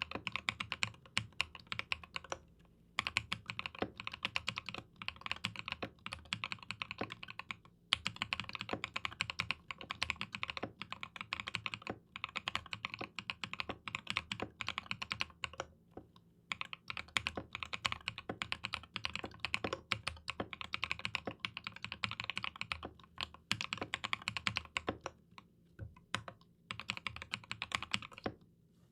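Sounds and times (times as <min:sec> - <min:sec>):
fast mechanical keyboard typing: 0:00.0 - 0:02.4, 0:03.0 - 0:15.7, 0:16.5 - 0:25.2, 0:26.1 - 0:28.4.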